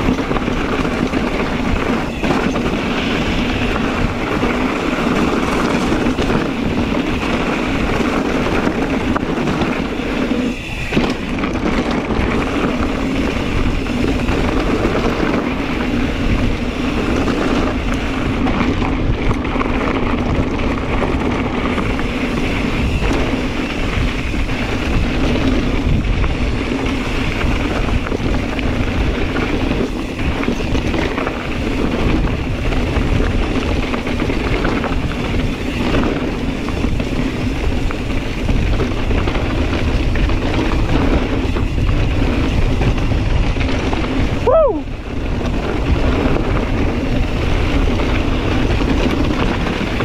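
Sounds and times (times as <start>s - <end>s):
bike rumbling on dirt trail: 0.0s - 50.0s
wind on microphone: 0.0s - 50.0s.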